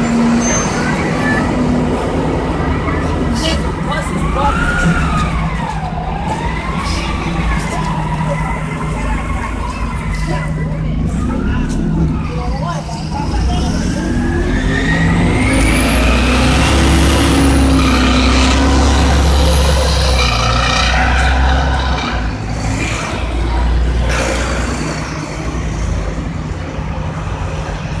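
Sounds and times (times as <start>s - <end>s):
bus engine drone: 0.0s - 28.0s
high engine whine: 0.0s - 28.0s.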